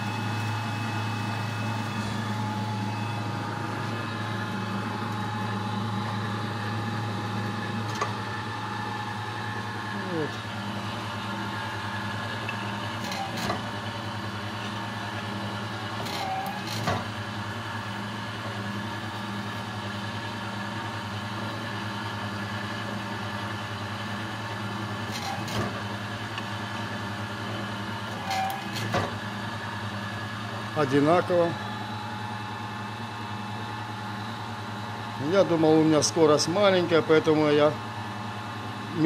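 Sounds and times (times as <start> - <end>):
motor humming steadily: 0.0 - 39.0.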